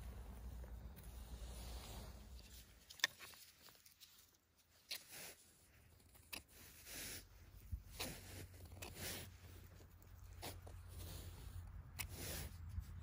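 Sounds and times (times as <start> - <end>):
faint rustling of moss: 0.0 - 13.0.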